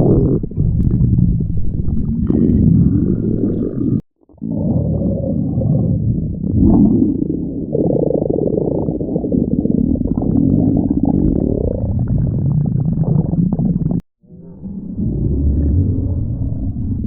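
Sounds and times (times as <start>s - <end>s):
stomach growling and gurgling: 0.0s - 17.0s.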